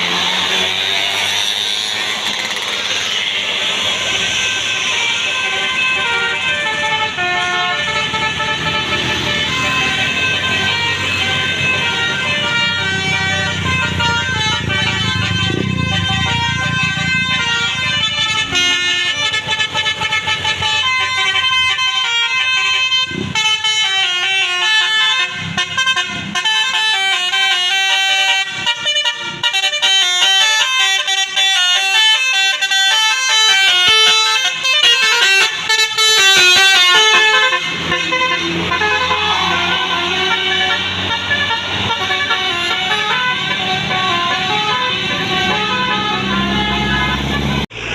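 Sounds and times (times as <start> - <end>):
musical air horn melody: 3.2 - 47.7.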